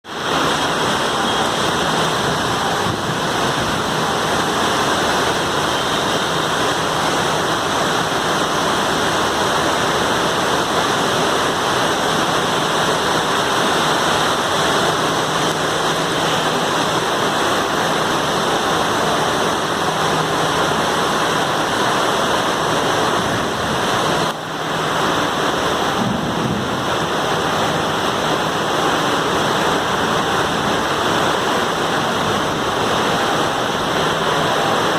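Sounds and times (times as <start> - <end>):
rain falling steadily: 0.0 - 34.9.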